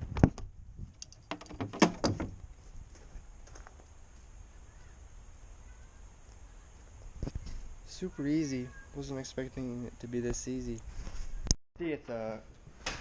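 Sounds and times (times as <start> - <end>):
faint background noise: 1.0 - 13.0.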